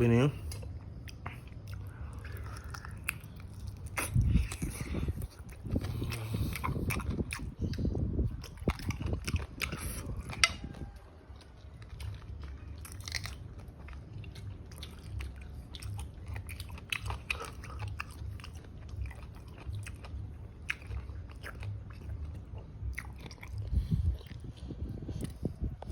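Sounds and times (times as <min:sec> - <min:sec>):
person chewing crunchy food: 0:00.4 - 0:25.9.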